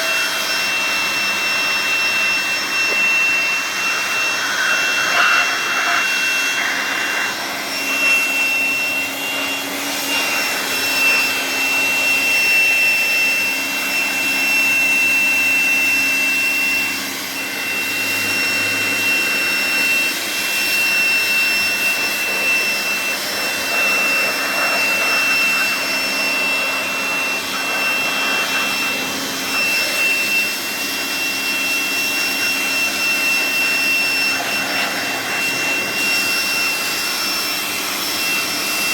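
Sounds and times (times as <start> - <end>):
electric air blower whining: 0.0 - 38.9.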